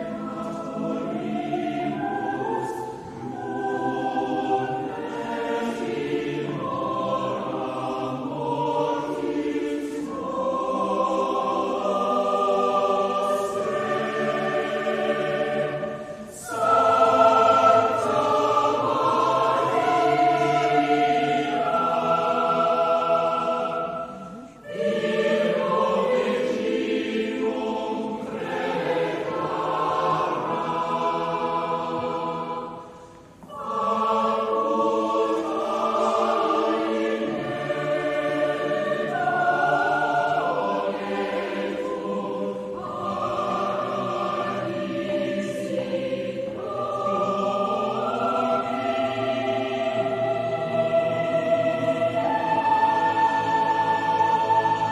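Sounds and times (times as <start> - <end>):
choir singing slow chords: 0.0 - 54.9.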